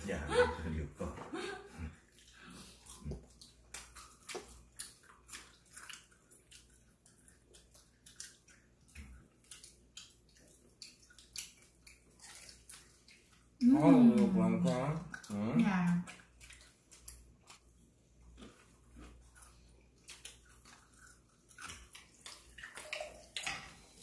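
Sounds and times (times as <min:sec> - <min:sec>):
people chewing fried chicken: 0:00.0 - 0:24.0.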